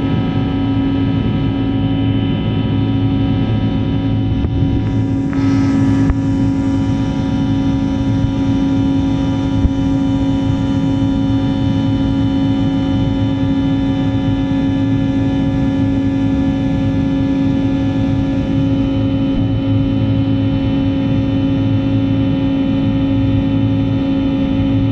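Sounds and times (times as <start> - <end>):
airliner engines droning in cabin: 0.0 - 24.9.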